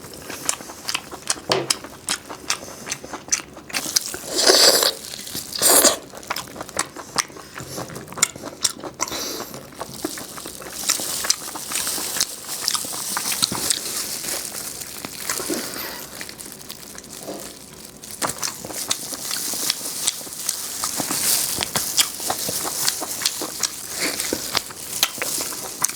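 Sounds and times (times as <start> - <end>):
crunchy chewing of food: 0.0 - 25.9.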